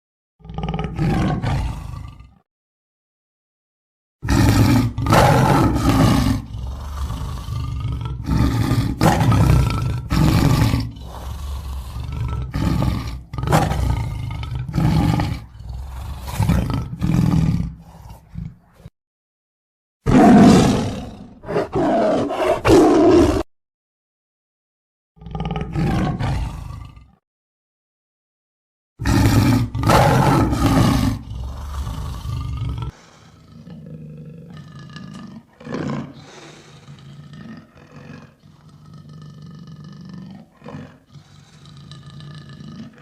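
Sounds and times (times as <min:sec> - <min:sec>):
lion roaring and grunting: 0:00.4 - 0:02.4, 0:04.2 - 0:18.9, 0:20.1 - 0:23.5, 0:25.2 - 0:27.2, 0:29.0 - 0:43.0.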